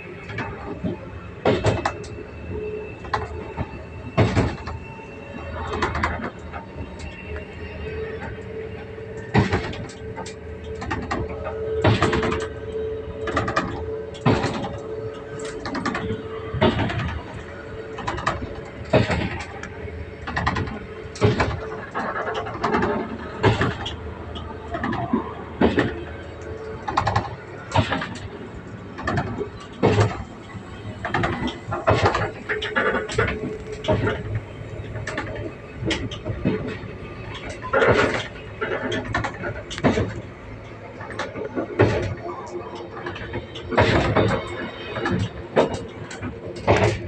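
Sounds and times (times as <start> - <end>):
train rumble: 0.0 - 47.0
train wheels clacking: 0.0 - 47.0.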